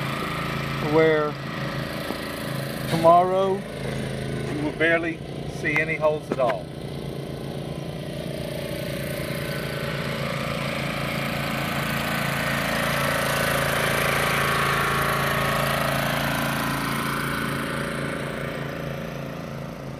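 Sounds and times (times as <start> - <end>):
small engine of a roller: 0.0 - 19.9.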